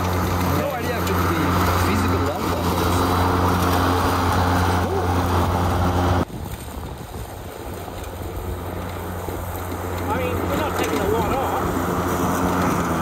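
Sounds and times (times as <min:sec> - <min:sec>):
lawn mower humming: 0:00.0 - 0:13.0.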